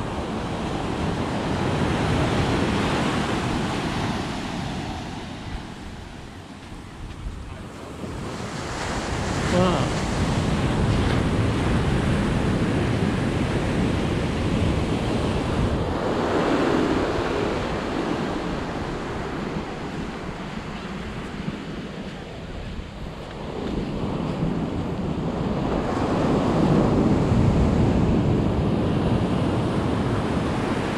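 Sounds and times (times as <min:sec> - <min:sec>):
surf washing up a beach: 0:00.0 - 0:30.9
wind buffeting microphone: 0:00.0 - 0:30.9.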